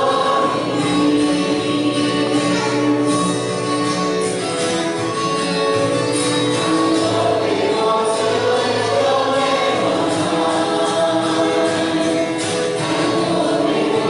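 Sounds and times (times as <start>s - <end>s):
group singing worship song: 0.0s - 3.7s, 6.2s - 14.0s
instrumental accompaniment: 0.0s - 14.0s.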